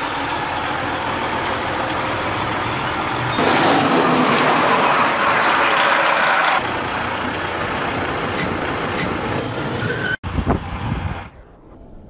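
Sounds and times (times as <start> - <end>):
steel wheels rolling on rail: 0.0 - 10.2.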